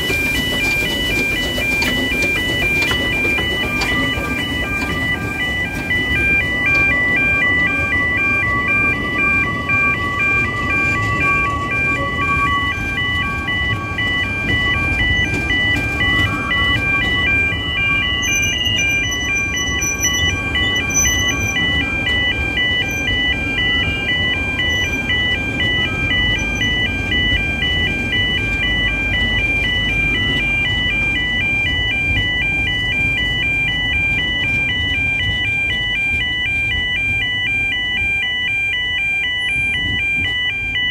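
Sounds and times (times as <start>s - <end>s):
train carriages rumbling past: 0.0s - 37.9s
level crossing alarm warbling: 0.0s - 40.9s.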